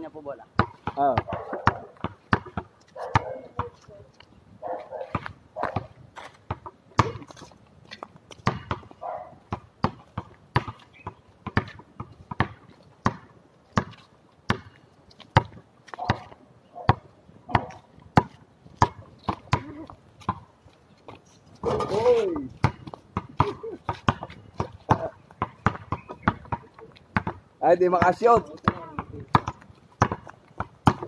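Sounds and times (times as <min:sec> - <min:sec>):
basketball bouncing on concrete: 0:00.5 - 0:04.0, 0:04.8 - 0:20.5, 0:21.6 - 0:31.0.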